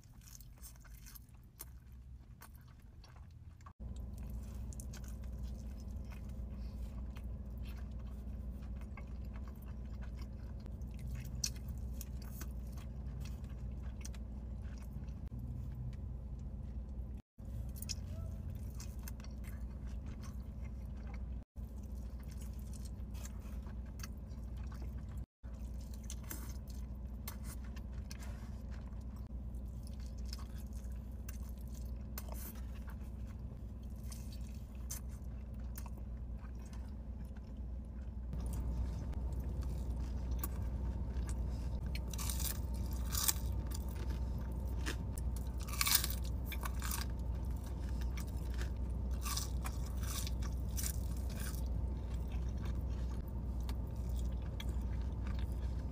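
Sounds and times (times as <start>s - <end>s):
person chewing food: 0.0s - 55.9s
steady low hum: 0.0s - 55.9s.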